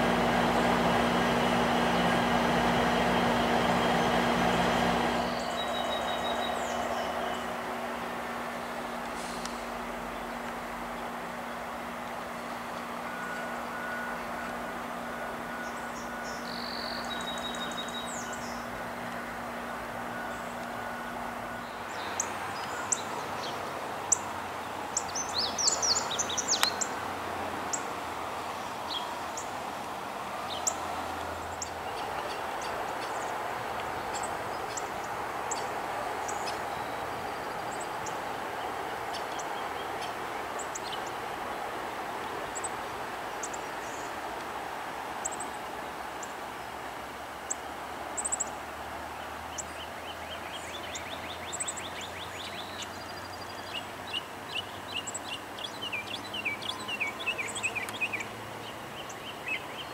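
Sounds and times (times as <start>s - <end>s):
outdoor background noise: 0.0s - 59.9s
songbirds chirping: 0.0s - 59.9s.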